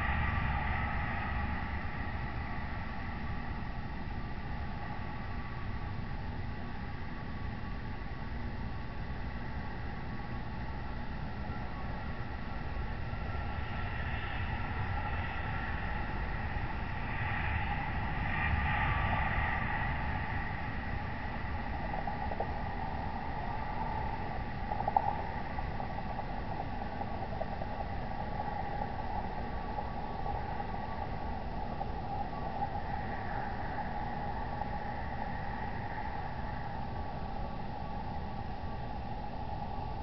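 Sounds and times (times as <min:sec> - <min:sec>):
faint steady tones: 0:00.0 - 0:40.0
low rumble and hiss: 0:00.0 - 0:40.0.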